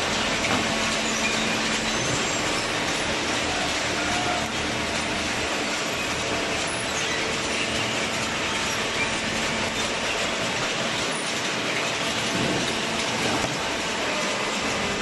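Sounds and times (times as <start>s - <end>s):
machinery running: 0.0s - 15.0s.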